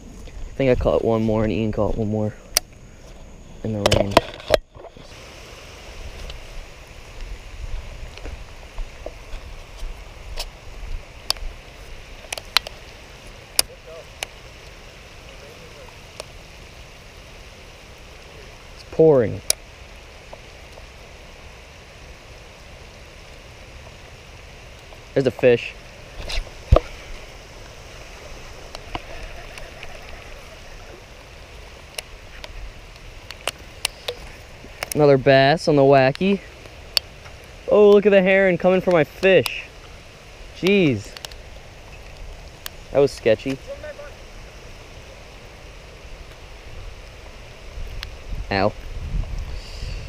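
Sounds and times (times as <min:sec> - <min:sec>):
wind rumbling on microphone: 0:00.0 - 0:37.9, 0:38.6 - 0:50.0
rain hiss: 0:00.0 - 0:50.0.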